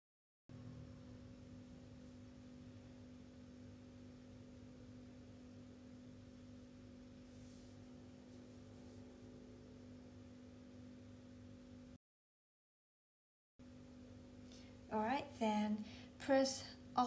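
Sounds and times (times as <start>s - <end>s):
faint low background hum: 0.5s - 12.0s, 13.6s - 17.0s.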